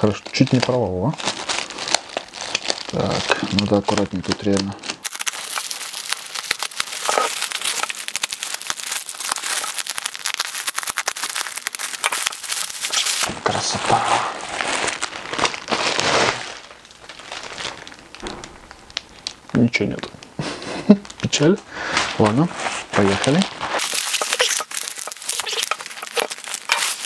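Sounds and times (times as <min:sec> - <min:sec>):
plastic wrapping crinkling: 0:00.0 - 0:27.0.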